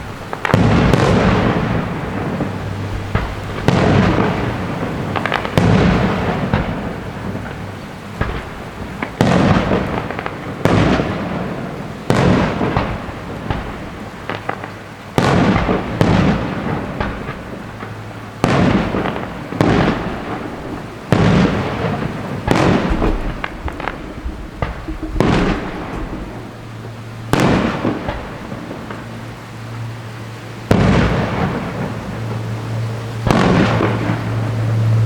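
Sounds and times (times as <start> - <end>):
fireworks bangs with echoing rumble: 0.0 - 35.0.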